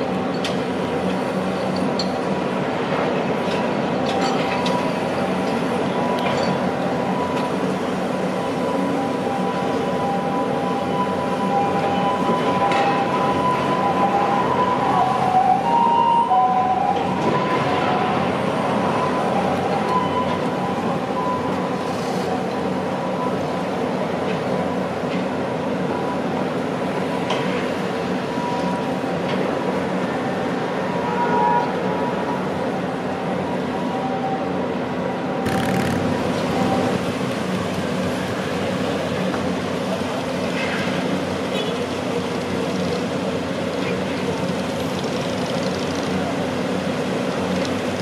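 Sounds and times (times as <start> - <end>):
diesel engine drone: 0.0 - 48.0.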